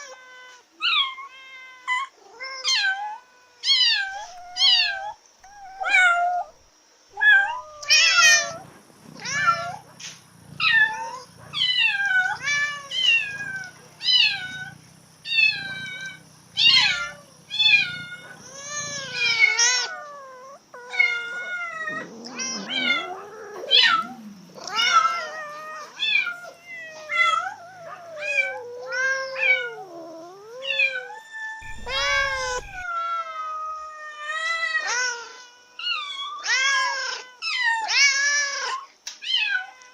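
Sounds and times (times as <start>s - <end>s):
cats yowling: 0.0s - 39.9s.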